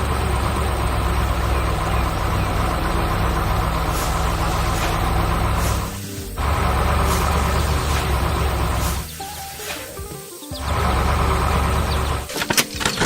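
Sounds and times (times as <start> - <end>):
heavy vehicle engine rumbling: 0.0 - 13.0.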